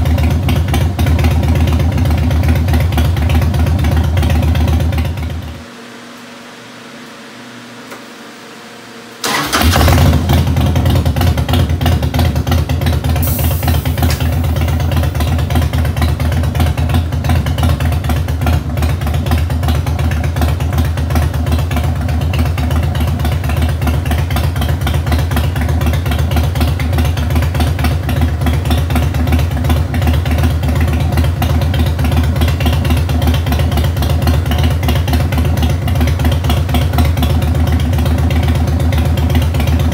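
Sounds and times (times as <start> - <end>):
motorcycle engine starting and idling: 0.0 - 5.7, 9.2 - 39.9.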